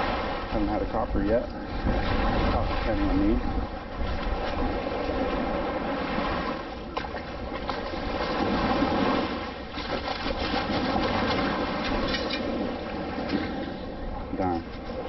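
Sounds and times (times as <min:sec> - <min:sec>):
shallow surf washing: 0:00.0 - 0:15.0.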